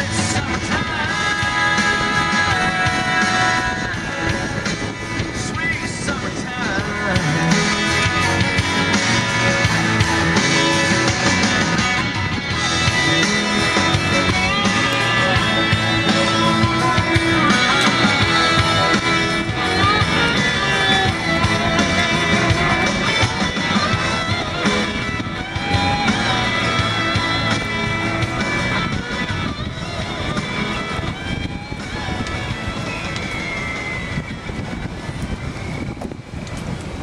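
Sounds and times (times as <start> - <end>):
instrumental rock music with guitar: 0.0 - 35.8.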